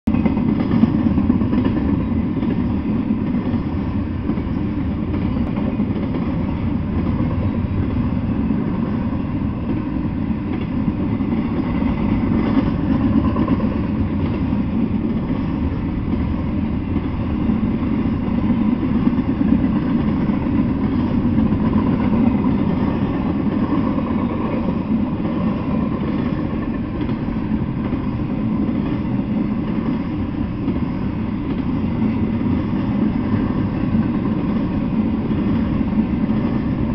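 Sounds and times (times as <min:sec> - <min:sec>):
freight train wheels rumbling on rails: 0:00.0 - 0:36.9.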